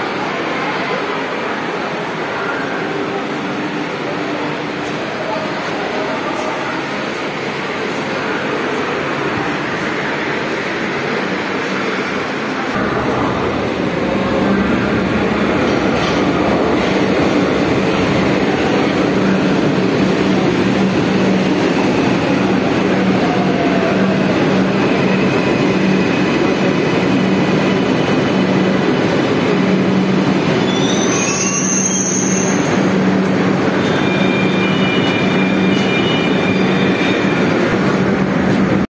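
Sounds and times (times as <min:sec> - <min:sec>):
train wheels rumbling on rail: 0:02.8 - 0:38.8.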